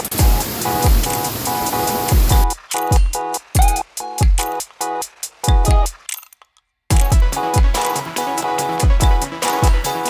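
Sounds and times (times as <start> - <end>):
repeating synth pattern: 0.0 - 5.9, 6.9 - 10.0.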